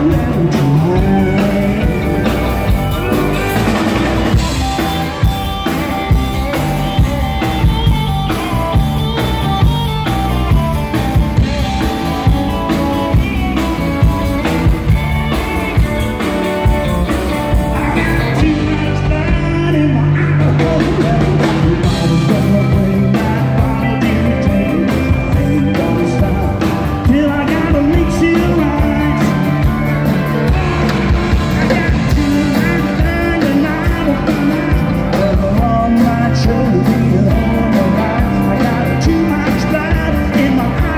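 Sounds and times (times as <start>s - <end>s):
person singing: 0.0s - 8.8s, 16.8s - 40.9s
live country band playing: 0.0s - 40.9s.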